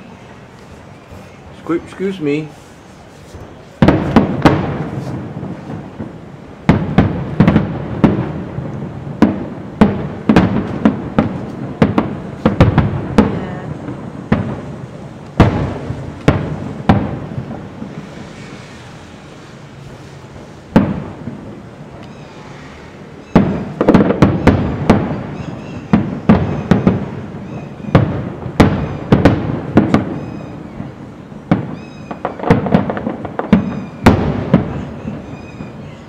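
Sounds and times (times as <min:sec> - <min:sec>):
firework shells bursting: 0:00.5 - 0:36.0.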